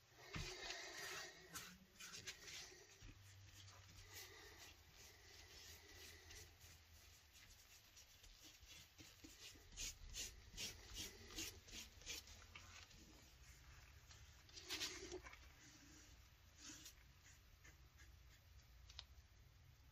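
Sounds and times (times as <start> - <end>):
scratching and rubbing: 0.7 - 18.6.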